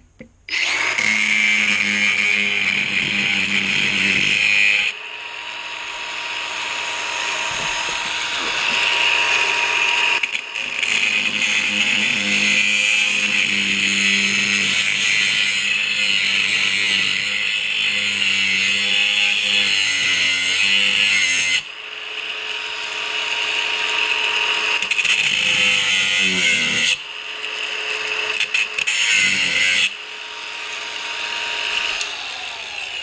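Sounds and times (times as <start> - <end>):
angle grinder cutting steel: 0.5 - 33.0.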